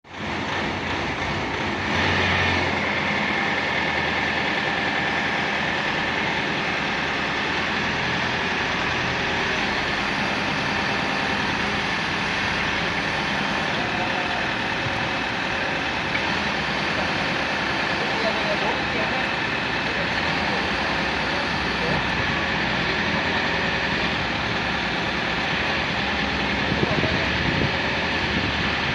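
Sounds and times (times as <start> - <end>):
drilling rig engine running: 0.0 - 28.9.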